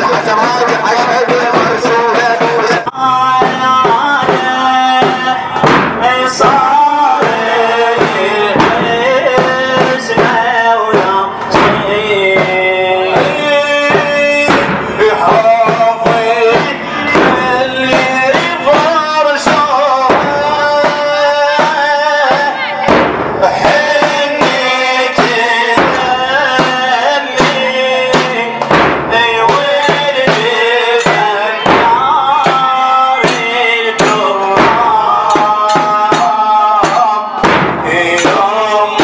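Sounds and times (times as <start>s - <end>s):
men singing a mourning chant: 0.0s - 39.0s
percussive beat: 0.0s - 39.0s.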